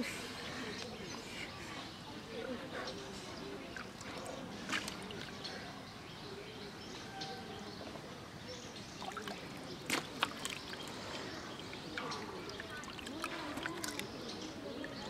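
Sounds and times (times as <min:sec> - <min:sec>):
faint distant voices: 0:00.0 - 0:15.0.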